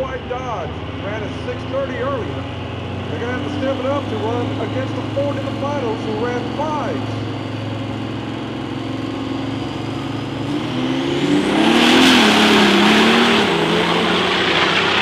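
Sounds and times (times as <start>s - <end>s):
diesel pickup engine revving: 0.0s - 15.0s
loud exhaust rush: 0.0s - 15.0s.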